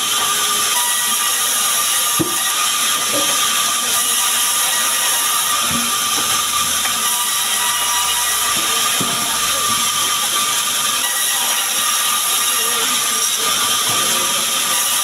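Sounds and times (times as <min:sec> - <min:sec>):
band saw cutting logs: 0:00.0 - 0:15.0.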